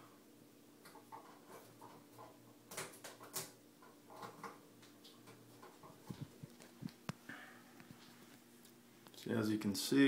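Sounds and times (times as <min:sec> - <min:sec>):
faint steady low hum: 0:00.0 - 0:10.0.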